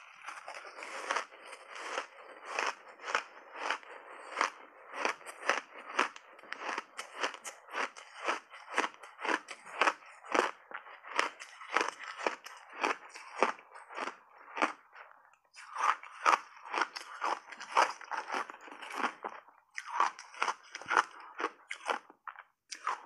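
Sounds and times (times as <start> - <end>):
chewing crunchy ice: 0.0 - 23.0.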